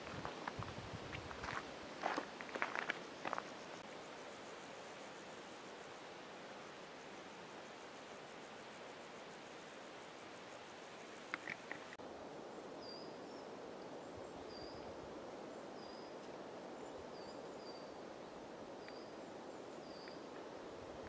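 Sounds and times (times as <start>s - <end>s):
pine forest rustling hiss: 0.0s - 21.0s.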